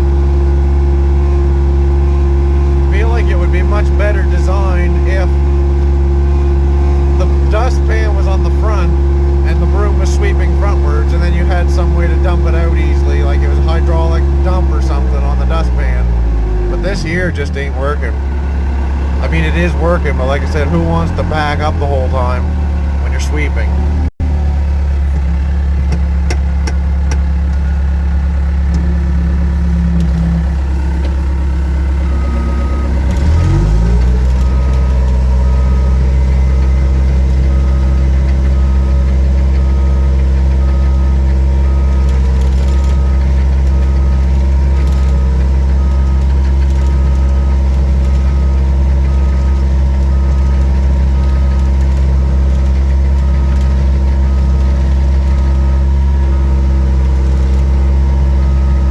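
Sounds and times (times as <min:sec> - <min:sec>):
back-up alarm beeping: 0:00.0 - 0:24.1, 0:28.7 - 0:58.9
diesel engine running: 0:00.0 - 0:58.9.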